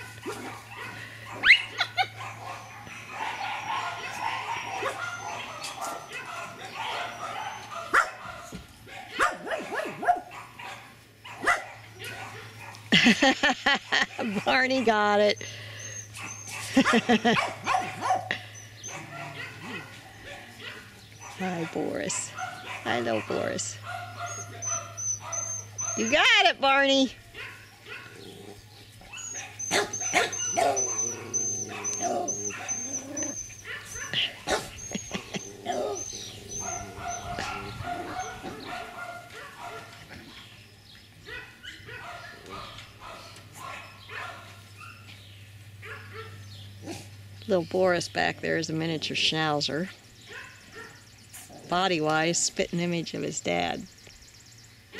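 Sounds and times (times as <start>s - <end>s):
puppies barking and yapping: 0.0s - 53.9s.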